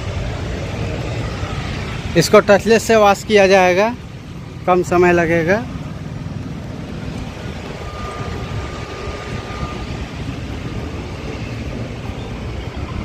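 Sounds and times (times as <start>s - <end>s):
engine rumble: 0.0s - 13.0s
faint thin whine: 0.0s - 13.0s.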